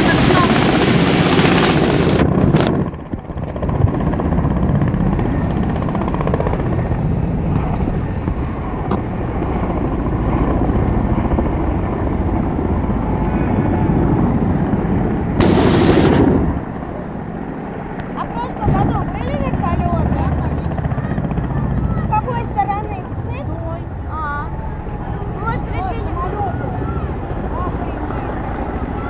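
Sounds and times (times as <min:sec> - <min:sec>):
helicopter flying overhead: 0:00.0 - 0:29.0.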